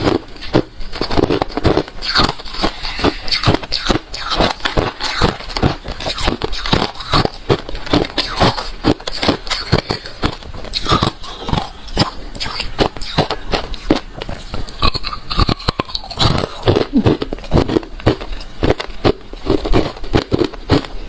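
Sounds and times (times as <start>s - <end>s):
crushed ice being chewed: 0.0s - 21.0s.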